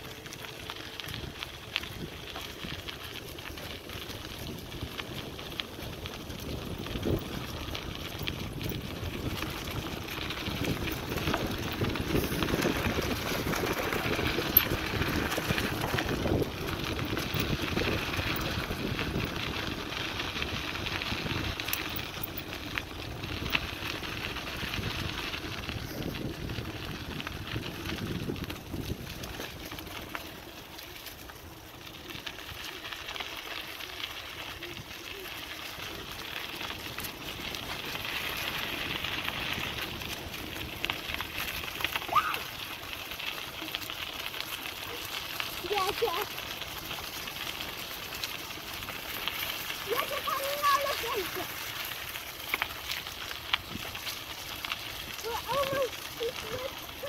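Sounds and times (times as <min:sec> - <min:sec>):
bicycle tyres rolling over leaves: 0:00.0 - 0:57.0.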